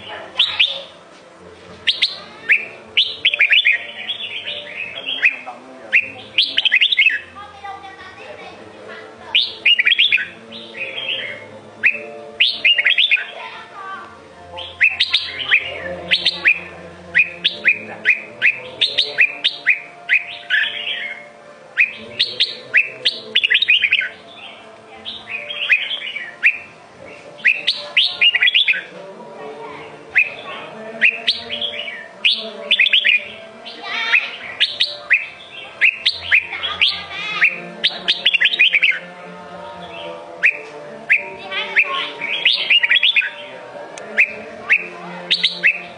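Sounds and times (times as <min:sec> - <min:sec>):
bulbul singing whistled notes: 0:00.0 - 0:00.9, 0:01.8 - 0:07.3, 0:09.3 - 0:13.4, 0:14.5 - 0:28.9, 0:30.1 - 0:39.1, 0:39.8 - 0:45.9.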